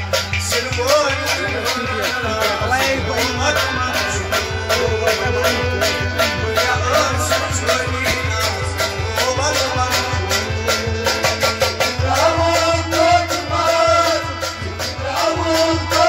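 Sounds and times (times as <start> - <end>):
hand drums beating: 0.0 - 16.0
harmonium chords: 0.0 - 16.0
man singing: 0.0 - 16.0.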